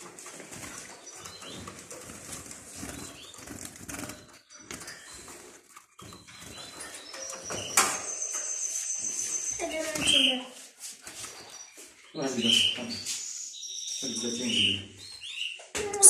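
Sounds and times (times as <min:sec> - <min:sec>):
sparrow chicks chirping: 0:00.1 - 0:16.0.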